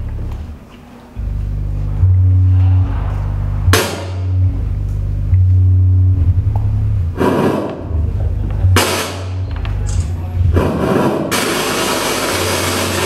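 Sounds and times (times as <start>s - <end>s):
low synthesizer drone: 0.0s - 13.0s.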